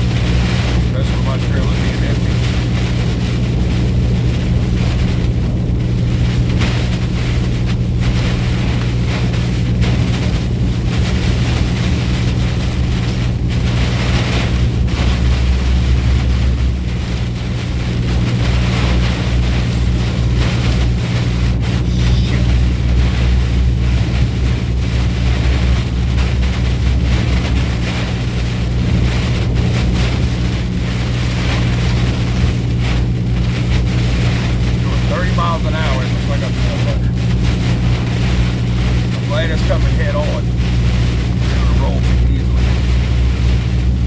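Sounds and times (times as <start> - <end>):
road and wind noise: 0.0 - 44.0
truck engine drone: 0.0 - 44.0.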